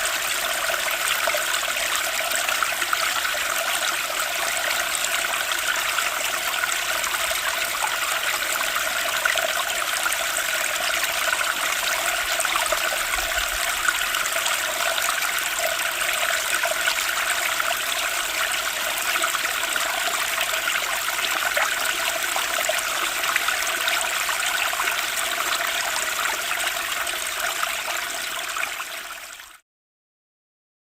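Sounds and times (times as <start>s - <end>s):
flowing water rushing: 0.0s - 29.3s.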